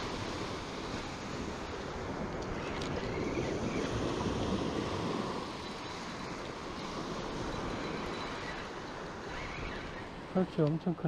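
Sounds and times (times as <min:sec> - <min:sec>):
surf waves breaking on beach: 0:00.0 - 0:11.0
wind buffeting microphone: 0:00.0 - 0:11.0.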